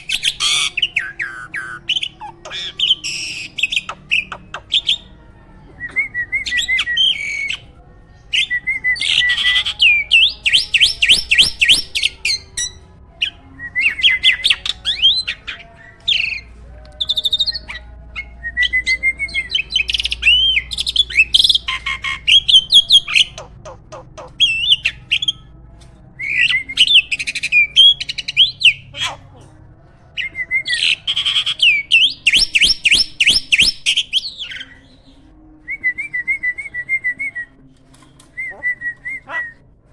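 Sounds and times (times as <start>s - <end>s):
starling singing: 0.0s - 25.6s, 26.2s - 29.4s, 30.0s - 37.4s.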